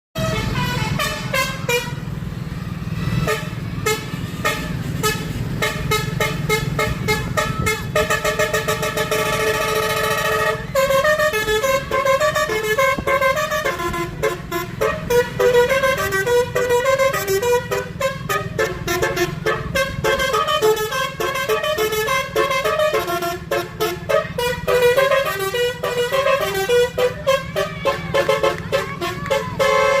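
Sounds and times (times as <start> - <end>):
train horn tones: 0.2 - 2.1, 3.2 - 30.0
low train rumble: 0.2 - 30.0.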